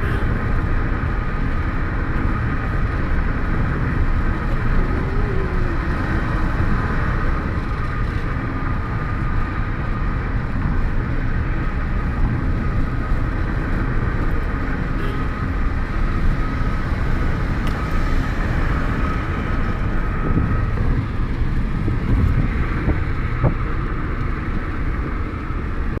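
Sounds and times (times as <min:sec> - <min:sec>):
road and engine noise: 0:00.0 - 0:26.0.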